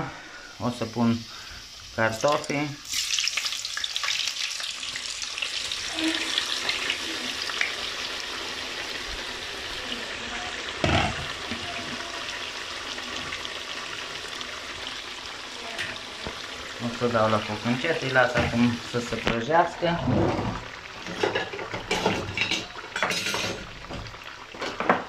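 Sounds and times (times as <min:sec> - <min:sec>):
hot oil sizzling and bubbling: 0:00.0 - 0:25.0.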